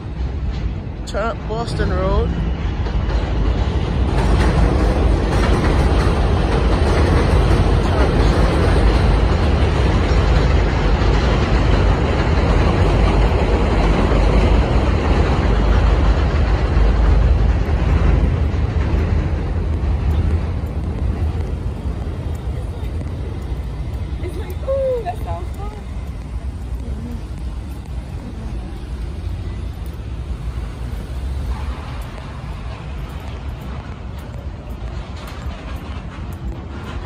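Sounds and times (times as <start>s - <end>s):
street traffic rushing: 0.0s - 37.0s
wind buffeting microphone: 0.0s - 37.0s.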